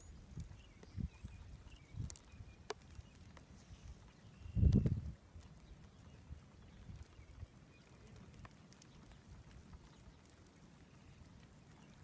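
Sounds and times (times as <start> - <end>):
small ticks: 0.0 - 12.0.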